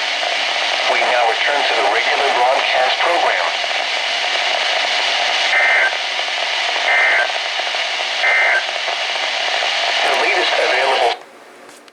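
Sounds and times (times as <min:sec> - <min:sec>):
radio static: 0:00.0 - 0:11.2.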